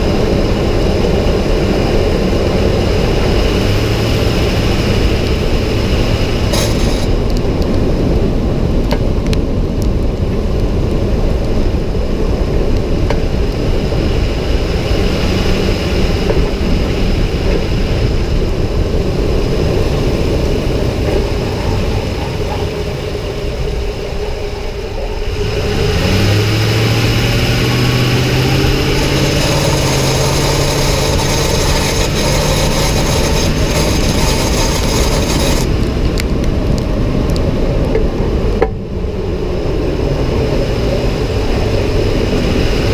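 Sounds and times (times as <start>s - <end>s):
low drone rising in pitch: 0.0s - 42.9s
truck engine and road noise: 0.0s - 42.9s.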